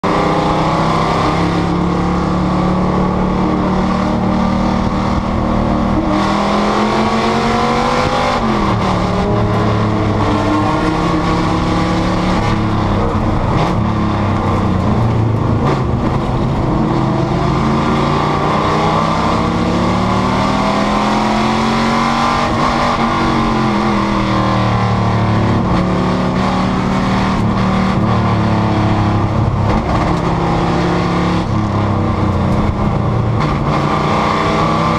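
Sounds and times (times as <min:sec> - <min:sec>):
race car engine revving: 0:00.0 - 0:34.9.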